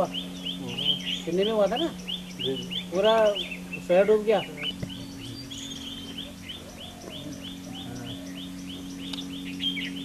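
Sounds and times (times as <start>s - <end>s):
bird chirping: 0.0s - 10.0s
steady low hum: 0.0s - 10.0s.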